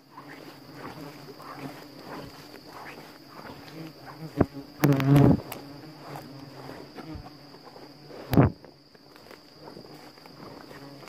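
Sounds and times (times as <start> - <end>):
hornets buzzing: 0.0 - 11.0.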